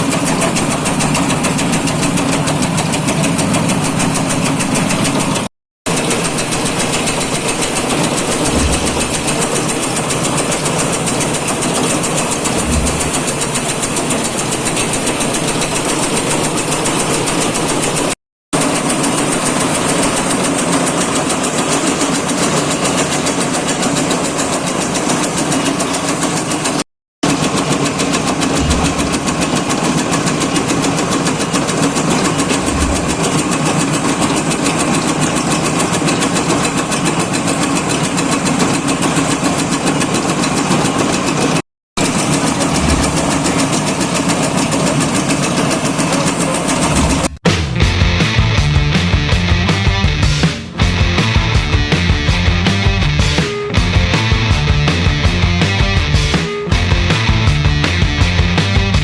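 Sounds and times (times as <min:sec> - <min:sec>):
shredding machine chattering: 0:00.0 - 0:59.0.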